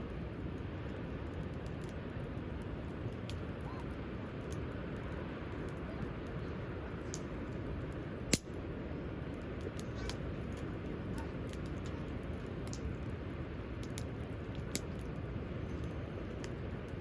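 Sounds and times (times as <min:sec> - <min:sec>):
sharp pops of fire: 0:00.0 - 0:06.4, 0:07.0 - 0:17.0
steady low rumble: 0:00.0 - 0:17.0
wood campfire crackling: 0:00.0 - 0:17.0.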